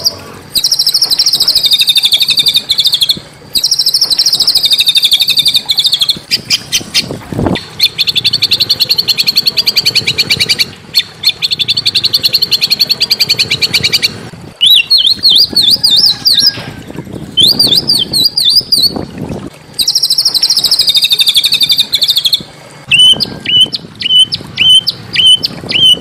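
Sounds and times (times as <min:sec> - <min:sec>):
bird warbling song: 0:00.0 - 0:19.1, 0:19.8 - 0:26.0.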